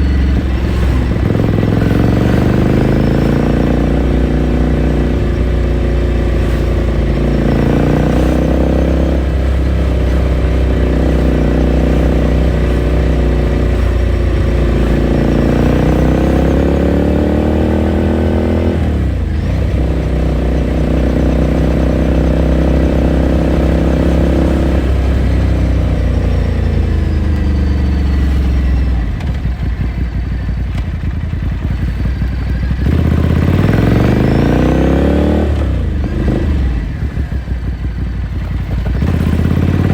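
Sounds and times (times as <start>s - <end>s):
motorcycle engine and exhaust revving: 0.0s - 39.9s.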